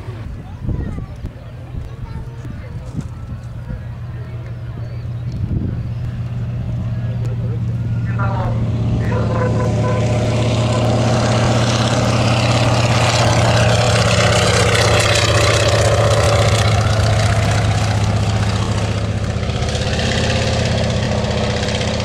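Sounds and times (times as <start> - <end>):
propeller plane radial engine: 0.0 - 22.0.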